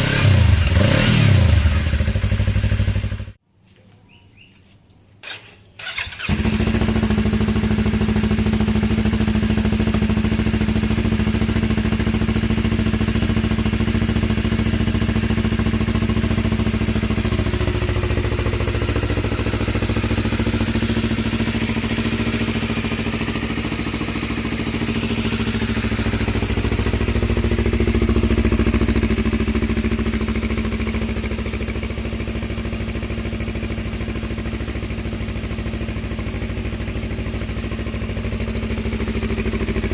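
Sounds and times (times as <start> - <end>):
motorcycle engine idling and revving: 0.0 - 3.4, 5.2 - 39.9.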